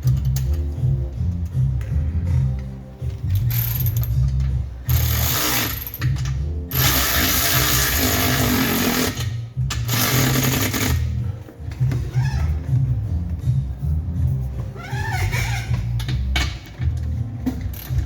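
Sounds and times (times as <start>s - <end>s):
background music with bass: 0.0s - 18.0s.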